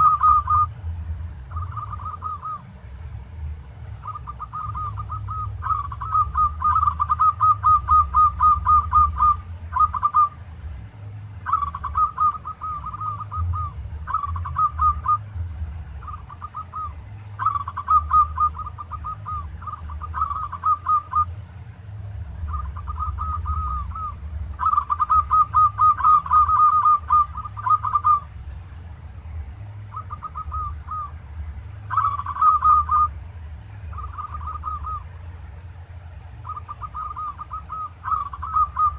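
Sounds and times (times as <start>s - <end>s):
dove cooing: 0.0s - 2.8s, 3.8s - 10.6s, 11.3s - 21.6s, 22.3s - 28.5s, 29.7s - 35.5s, 36.4s - 38.9s.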